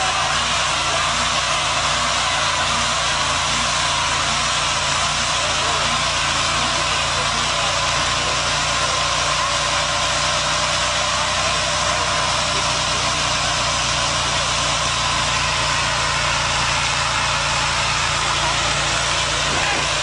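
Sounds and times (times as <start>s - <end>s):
engine revving high: 0.0s - 20.0s
tyres spinning on asphalt: 0.0s - 20.0s.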